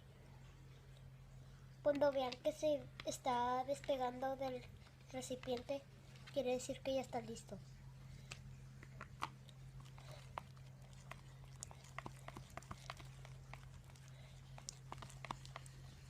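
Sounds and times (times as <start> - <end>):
low steady hum: 0.0 - 16.0
slime sticky squelches: 1.9 - 16.0.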